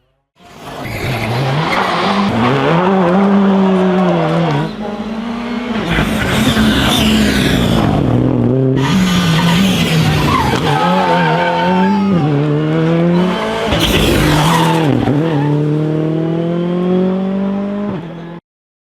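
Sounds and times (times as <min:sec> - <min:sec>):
rally car engine revving: 0:00.4 - 0:18.4.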